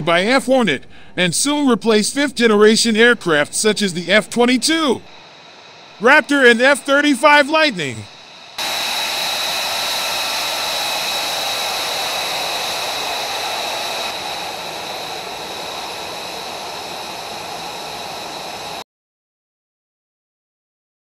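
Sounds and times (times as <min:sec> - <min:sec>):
jet engine idling: 0:00.0 - 0:18.8.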